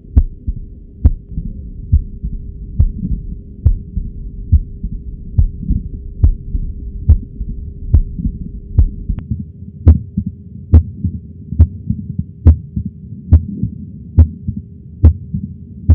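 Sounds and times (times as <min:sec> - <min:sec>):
faint steady hum: 0:00.0 - 0:15.9
heartbeat thumps with clicks: 0:00.0 - 0:15.9.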